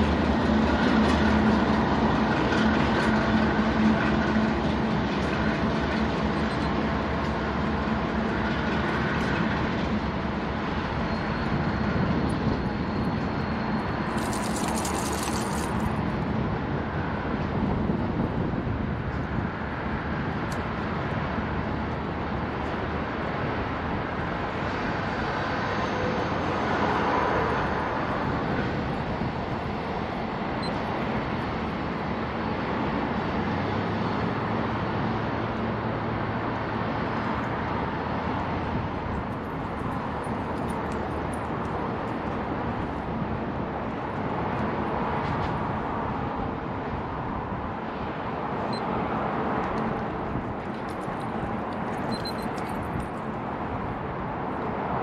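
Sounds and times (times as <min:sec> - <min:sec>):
freight train on tracks: 0:00.0 - 0:55.0
road traffic rumble: 0:00.0 - 0:55.0.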